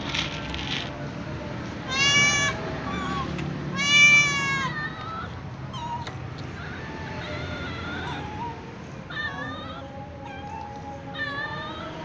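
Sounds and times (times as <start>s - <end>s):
cats meowing: 1.7s - 12.0s.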